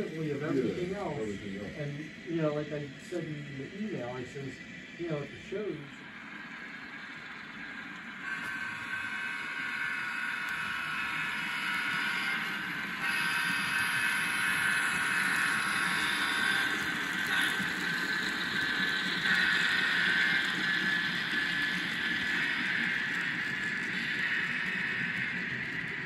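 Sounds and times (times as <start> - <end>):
model train motor whine: 0.0 - 26.0
wheels hissing on rail: 0.0 - 26.0.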